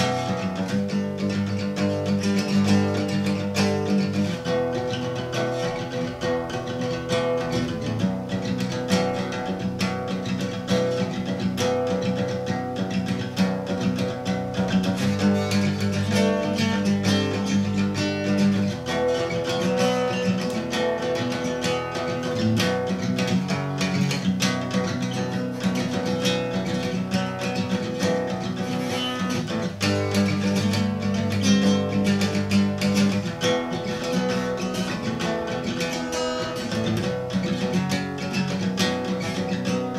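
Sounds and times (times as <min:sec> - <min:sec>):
acoustic guitar playing chords: 0:00.0 - 0:39.9.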